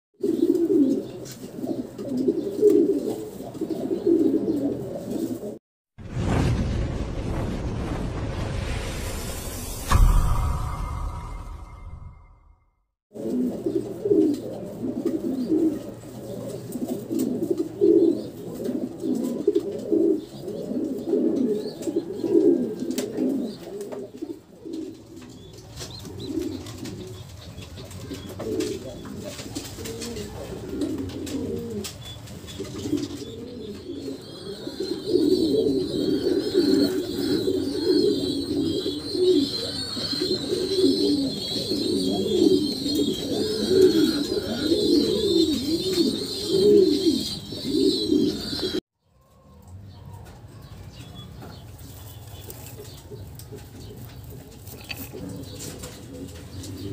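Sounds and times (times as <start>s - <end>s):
pigeons cooing: 0.2s - 5.6s, 13.2s - 48.8s, 52.3s - 56.9s.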